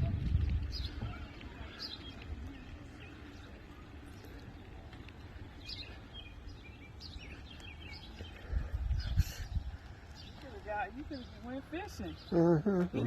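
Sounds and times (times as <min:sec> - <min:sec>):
low background rumble: 0:00.0 - 0:12.8
songbirds chirping: 0:00.0 - 0:13.0.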